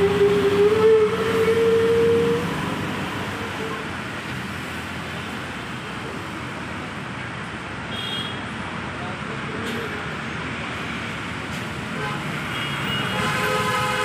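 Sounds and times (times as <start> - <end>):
road traffic rush: 0.0 - 14.0.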